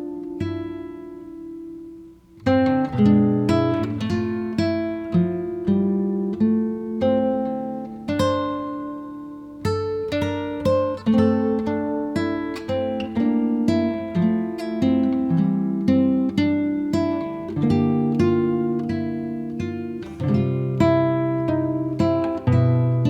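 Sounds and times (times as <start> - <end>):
acoustic guitar plucked notes: 0.0 - 23.0.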